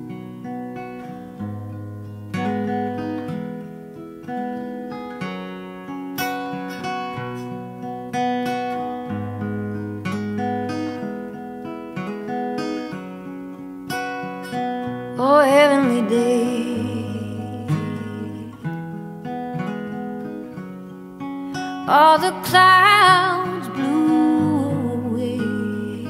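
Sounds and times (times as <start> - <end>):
acoustic guitar chords ringing: 0.0 - 26.0.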